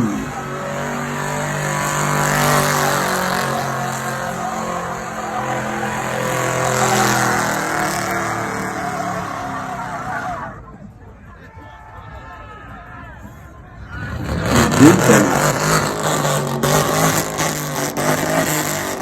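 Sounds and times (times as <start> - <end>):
truck engines running: 0.0 - 11.2, 13.6 - 19.0.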